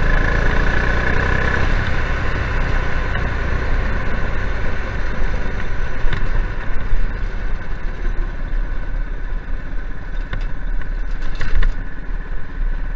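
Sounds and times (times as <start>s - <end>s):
go-kart engine running: 0.0s - 12.9s.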